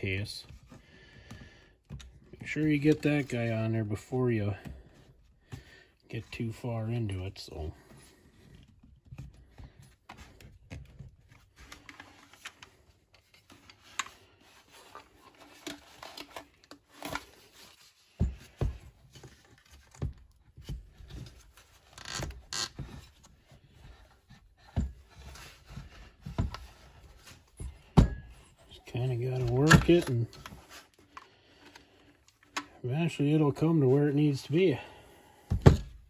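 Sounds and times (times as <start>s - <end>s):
plastic parts knocking and scraping: 0.0s - 34.0s, 34.8s - 36.0s.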